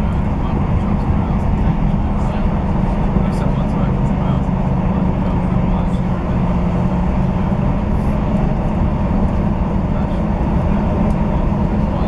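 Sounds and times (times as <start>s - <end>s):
train engine drone: 0.0s - 12.0s
wheels rumbling on track: 0.0s - 12.0s.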